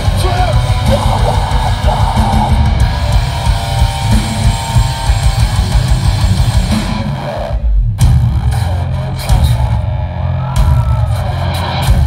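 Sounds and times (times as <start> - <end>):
distorted electric guitars: 0.0 - 12.0
fast drum kit: 0.0 - 12.0.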